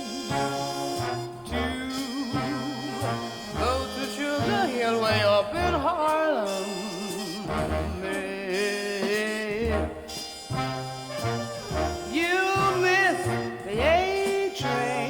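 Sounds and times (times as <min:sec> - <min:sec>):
bass notes: 0:00.0 - 0:08.6, 0:09.4 - 0:15.0
jazz lead line with vibrato: 0:00.0 - 0:15.0.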